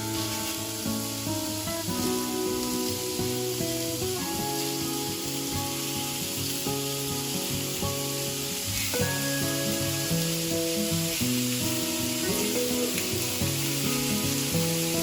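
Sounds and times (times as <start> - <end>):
meatballs sizzling in oil: 0.0 - 15.0.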